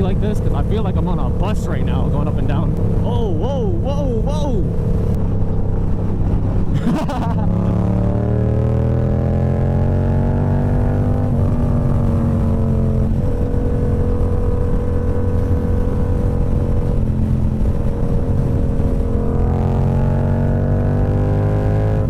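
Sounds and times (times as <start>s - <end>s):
motorcycle engine cruising: 0.0s - 22.0s
wind rumble: 0.0s - 22.0s.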